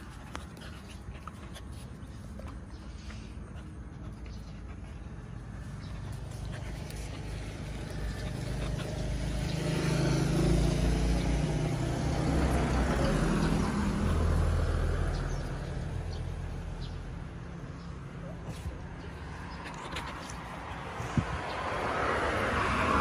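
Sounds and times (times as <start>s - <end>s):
vehicle passing by: 0.0s - 23.0s.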